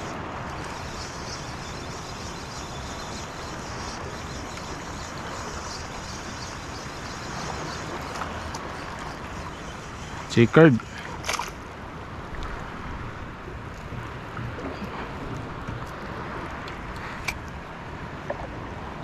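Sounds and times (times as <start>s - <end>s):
shallow seawater rushing: 0.0s - 18.9s
wind: 0.0s - 19.0s.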